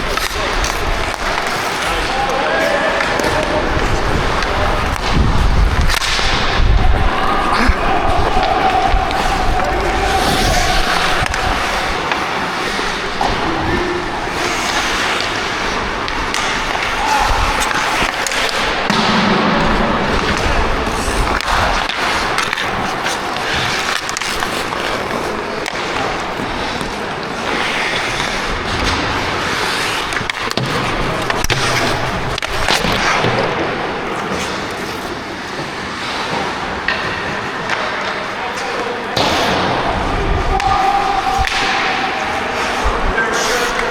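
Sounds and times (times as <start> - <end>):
hockey sticks and puck clacking: 0.0 - 43.9
skate blades scraping ice: 0.0 - 43.9.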